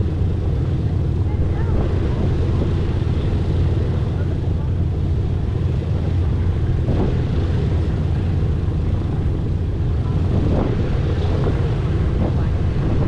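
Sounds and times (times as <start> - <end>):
aircraft radial engines droning: 0.0 - 13.0.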